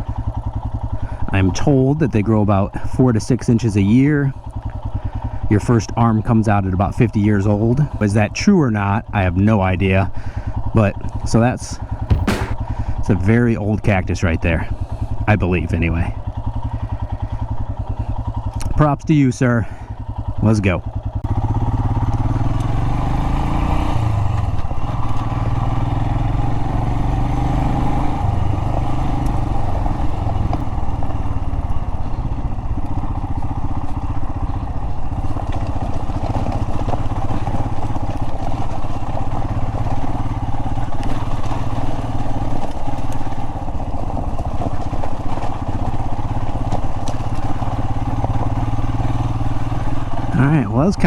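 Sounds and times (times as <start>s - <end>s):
motorcycle engine pulling away: 0.0s - 51.0s.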